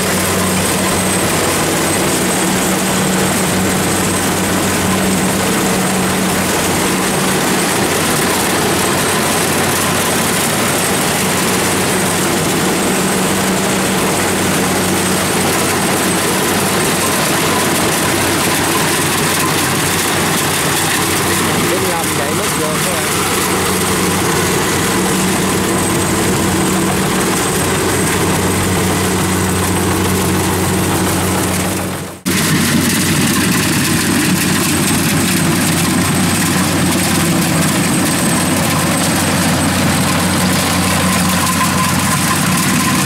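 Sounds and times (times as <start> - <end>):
combine harvester engine droning: 0.0 - 43.0.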